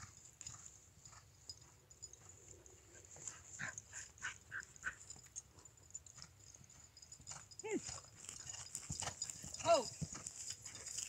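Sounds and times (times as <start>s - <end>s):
horse hoofbeats on sand: 0.0s - 11.0s.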